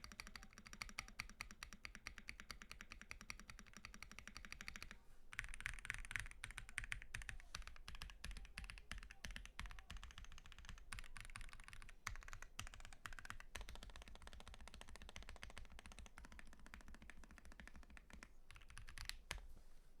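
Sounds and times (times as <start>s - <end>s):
mechanical keyboard typing: 0.0s - 19.4s.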